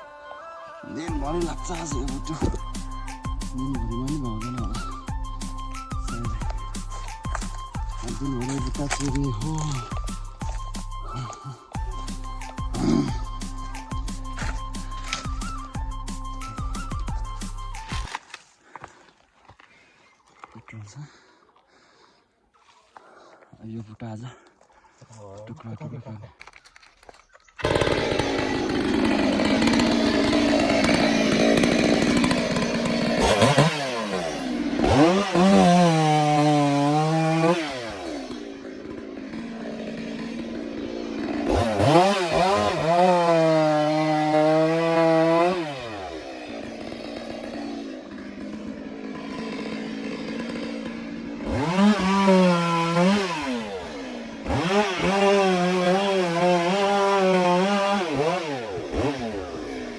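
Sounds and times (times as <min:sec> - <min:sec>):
chainsaw engine revving: 0:01.2 - 0:18.2, 0:27.6 - 0:59.9.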